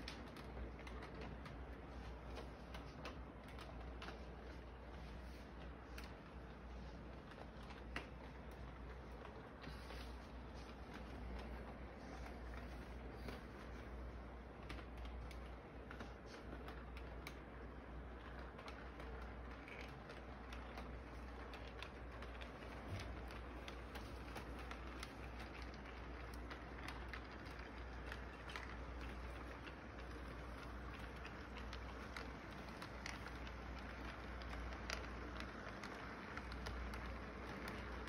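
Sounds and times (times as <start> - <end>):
model train wheels clicking on rails: 0.0 - 38.0
steady low hum: 0.0 - 38.0.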